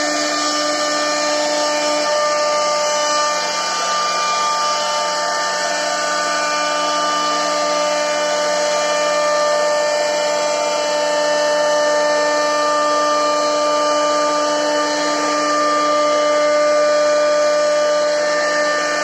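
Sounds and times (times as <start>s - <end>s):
router spindle whining: 0.0s - 19.0s.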